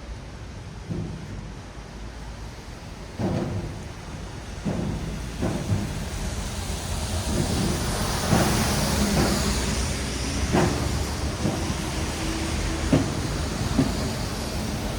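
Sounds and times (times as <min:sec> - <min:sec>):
engine rumble: 0:00.0 - 0:14.9
tyres hissing on wet road: 0:02.1 - 0:14.9
short knocks: 0:02.2 - 0:14.3.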